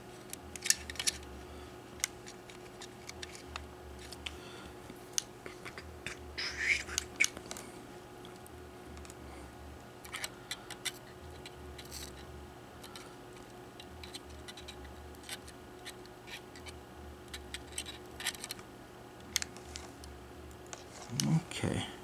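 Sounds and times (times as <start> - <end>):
faint steady hum: 0.0 - 22.0
light clicks and scratches: 0.1 - 1.3, 1.9 - 9.2, 10.0 - 21.4.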